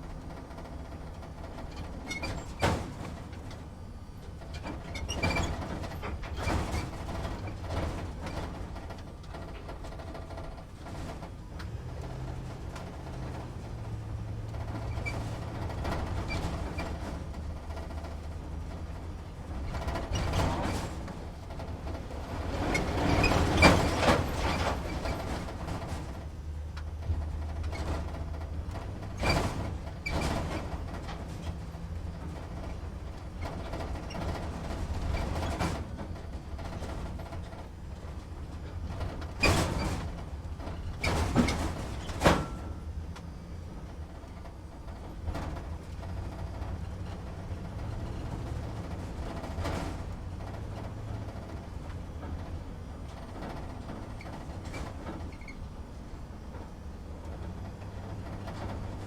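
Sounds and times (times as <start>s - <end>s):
truck engine rumble: 0.0s - 59.0s
cab rattles and clunks: 0.2s - 59.0s.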